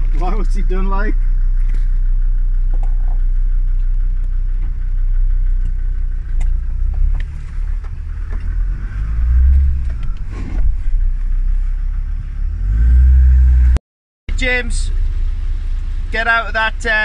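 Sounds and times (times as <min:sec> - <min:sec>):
vehicle engine and tyres rumbling: 0:00.0 - 0:17.0.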